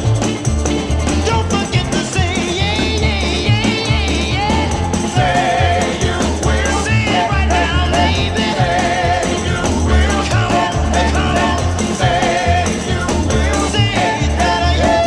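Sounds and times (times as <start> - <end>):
upbeat song with singing: 0.0 - 15.0.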